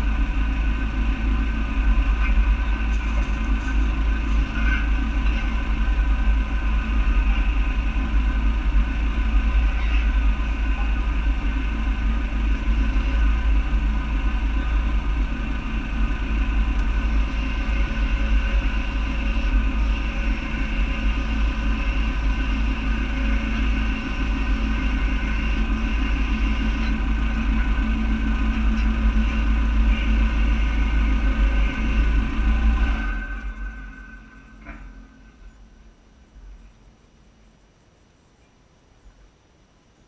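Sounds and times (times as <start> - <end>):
vehicle engine idling: 0.0 - 39.4
steady hum: 0.0 - 40.0.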